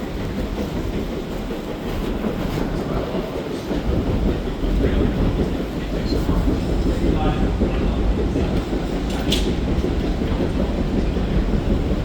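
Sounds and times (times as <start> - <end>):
underground train rumbling on track: 0.0 - 12.0.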